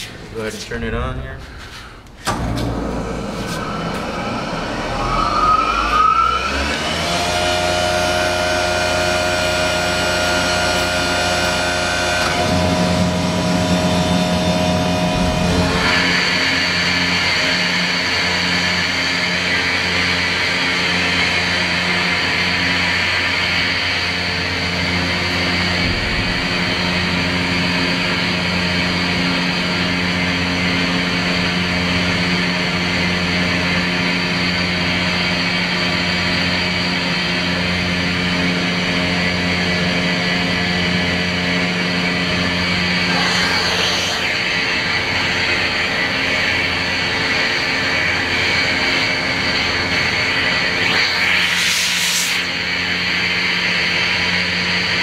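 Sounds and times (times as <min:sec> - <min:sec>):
air compressor running: 0:01.4 - 0:55.0.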